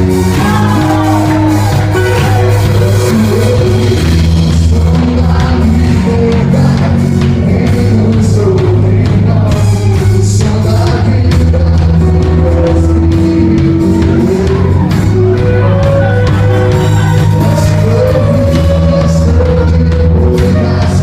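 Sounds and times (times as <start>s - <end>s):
person singing long notes: 0.0s - 21.0s
worship band with drum kit: 0.0s - 21.0s.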